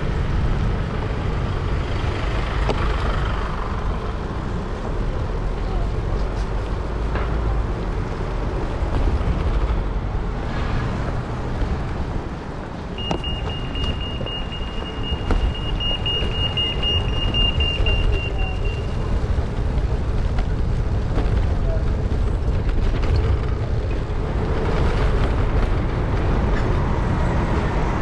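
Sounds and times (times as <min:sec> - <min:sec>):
city road traffic rumble: 0:00.0 - 0:28.0.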